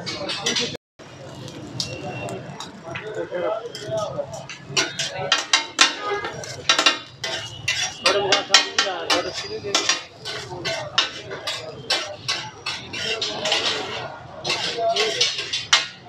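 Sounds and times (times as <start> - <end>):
metal utensils clanking and scraping: 0.0 - 0.8, 1.7 - 16.0.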